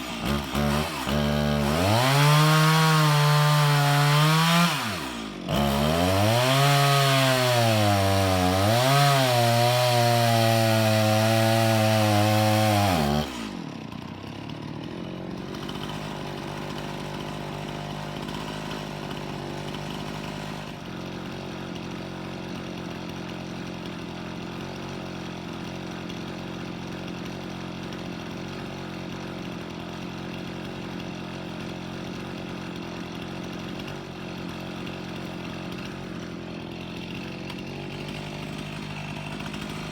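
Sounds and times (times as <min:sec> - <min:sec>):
chainsaw cutting and idling: 0:00.0 - 0:39.9.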